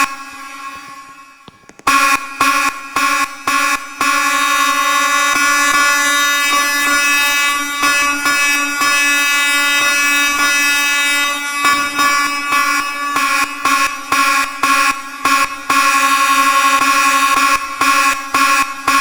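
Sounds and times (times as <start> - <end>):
fire alarm horn buzzing: 0.0 - 19.0.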